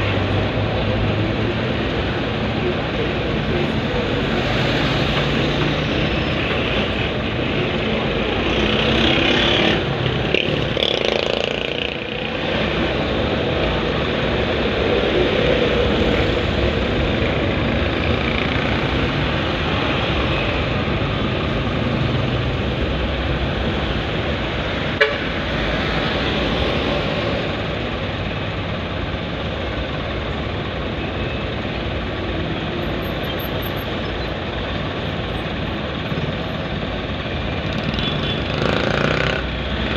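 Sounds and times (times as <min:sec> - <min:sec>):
road traffic and engine noise: 0:00.0 - 0:39.9.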